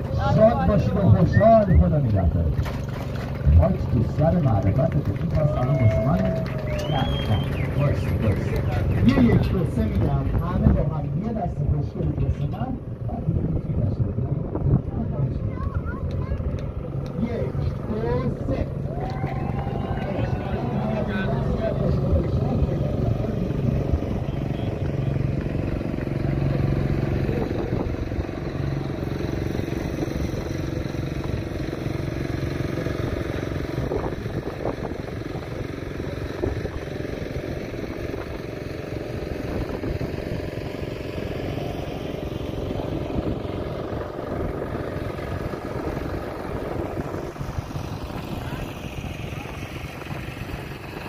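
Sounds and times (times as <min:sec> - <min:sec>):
engine humming: 0:00.0 - 0:51.0.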